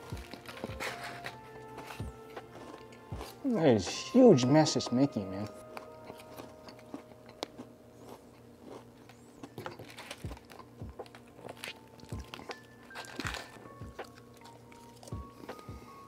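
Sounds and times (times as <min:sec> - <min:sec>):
crunchy chewing of crackers: 0:00.0 - 0:03.6, 0:05.4 - 0:16.0
lo-fi music with soft beat: 0:00.0 - 0:07.7, 0:09.1 - 0:16.0.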